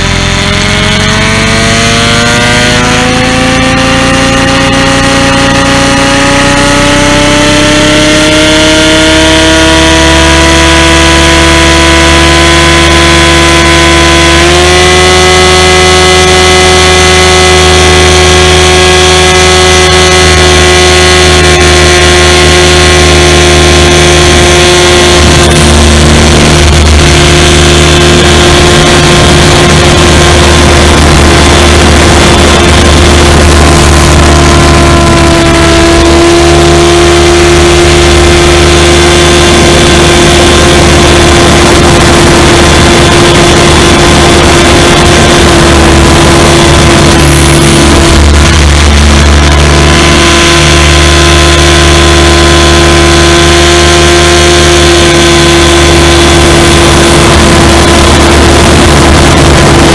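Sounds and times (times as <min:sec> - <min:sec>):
rc helicopter motor whine: 0:00.0 - 0:59.9
rotor and wind noise: 0:00.0 - 0:59.9.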